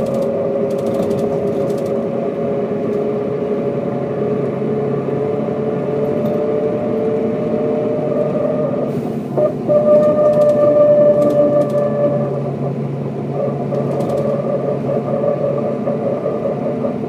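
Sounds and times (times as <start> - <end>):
bus engine whine: 0.0 - 17.0.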